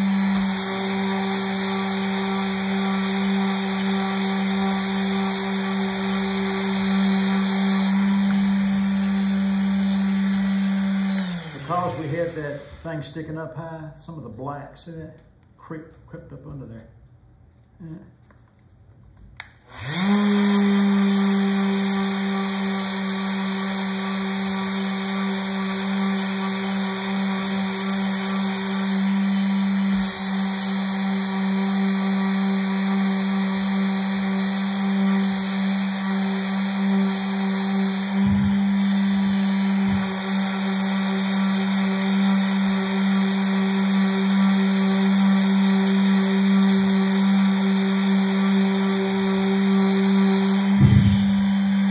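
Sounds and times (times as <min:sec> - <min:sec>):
orbital sander humming: 0:00.0 - 0:12.8, 0:19.7 - 0:51.9.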